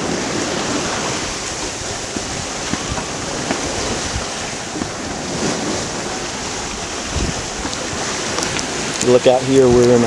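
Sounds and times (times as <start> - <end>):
waves splashing on hull: 0.0 - 10.0
wind buffeting microphone: 0.0 - 10.0.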